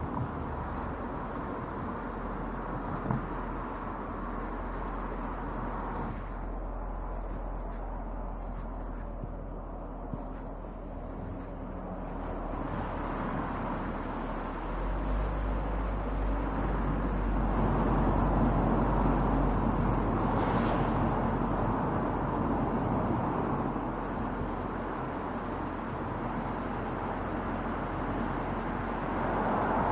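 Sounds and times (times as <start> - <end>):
car tyre and wind noise: 0.0 - 29.9.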